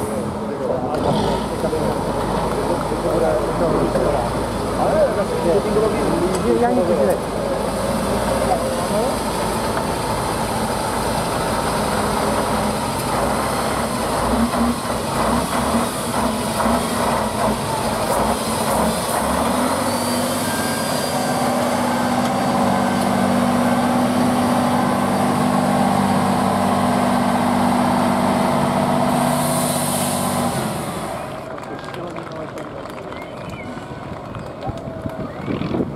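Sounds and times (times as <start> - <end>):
diesel truck engine under load: 0.0 - 32.0.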